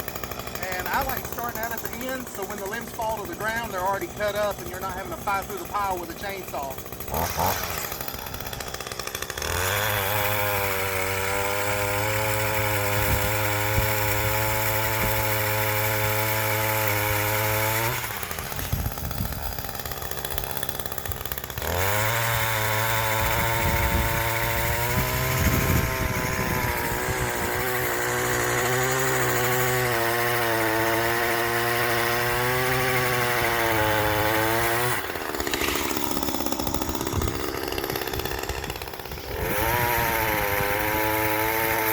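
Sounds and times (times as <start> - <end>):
two-stroke pole saw engine: 0.0 - 41.9.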